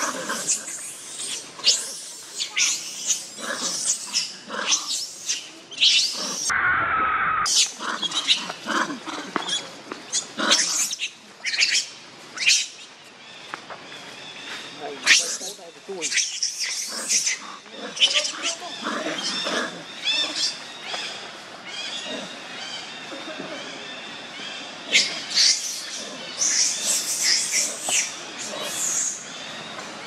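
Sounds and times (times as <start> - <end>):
monkeys screaming: 0.0 - 12.7, 15.0 - 29.3.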